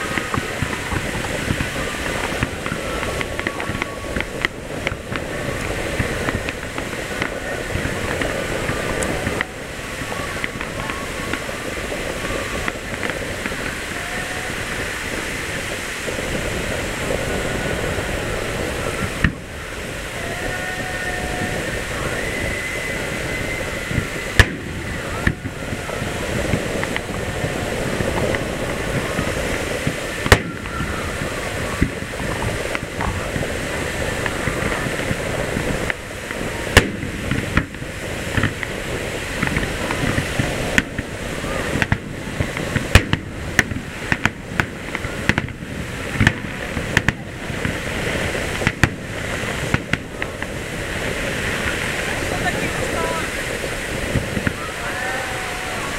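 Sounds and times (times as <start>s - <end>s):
fireworks rushing hiss: 0.0s - 55.9s
fireworks shells bursting: 0.0s - 55.9s.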